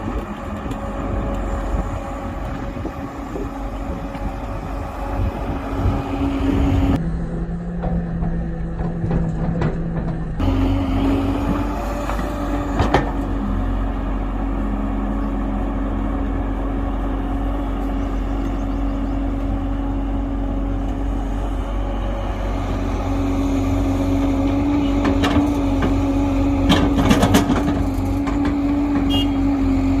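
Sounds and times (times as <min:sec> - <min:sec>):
diesel engine under load: 0:00.0 - 0:30.0.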